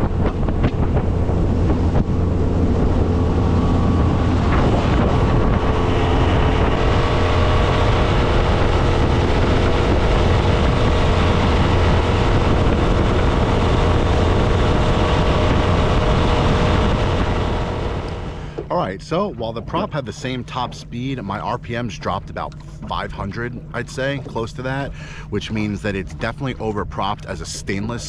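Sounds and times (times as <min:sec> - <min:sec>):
outboard motor running: 0:00.0 - 0:28.0
water rushing and spraying: 0:00.0 - 0:28.0.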